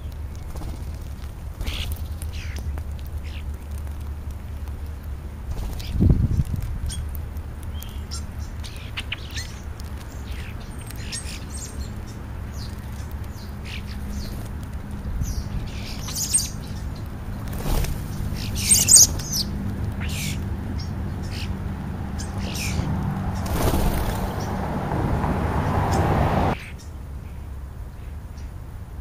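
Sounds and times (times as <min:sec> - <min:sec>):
starlings chirping: 0:00.0 - 0:04.6, 0:05.2 - 0:28.6.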